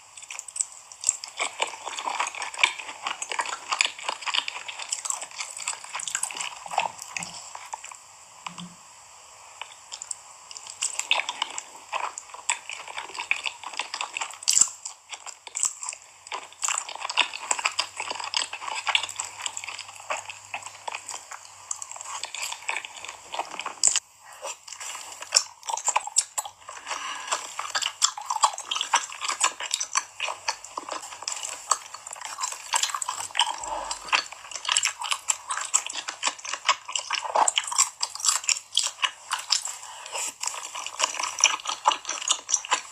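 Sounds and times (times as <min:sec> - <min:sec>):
person chewing crunchy food: 0:00.0 - 0:42.9.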